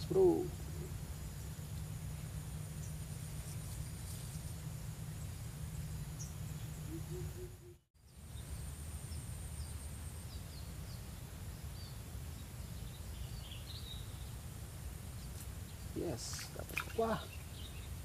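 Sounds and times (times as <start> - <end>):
steady low rumble: 0.0 - 16.6
small birds chirping: 0.0 - 18.0.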